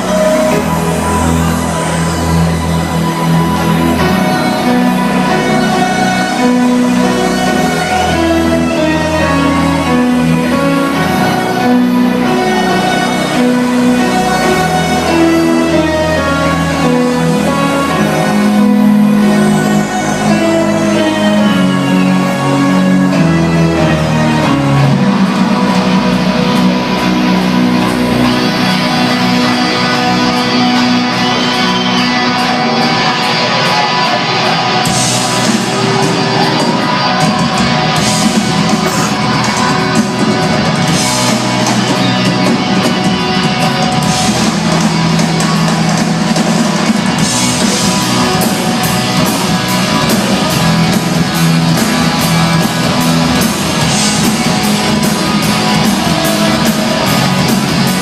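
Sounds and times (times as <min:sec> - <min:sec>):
rock music with guitar: 0:00.0 - 0:58.0.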